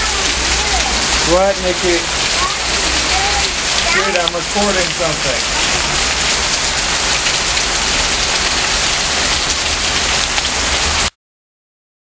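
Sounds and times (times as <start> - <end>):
heavy rain pouring: 0.0 - 11.2.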